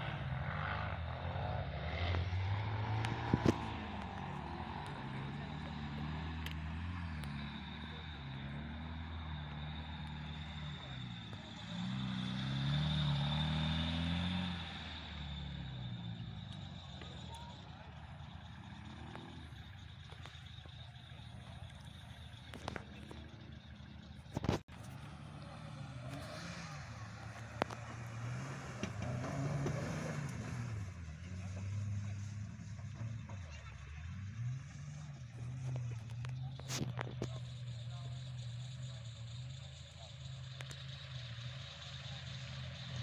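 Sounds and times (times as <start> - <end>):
distant engine droning: 0.0 - 43.0
vehicle motor humming: 0.0 - 43.0.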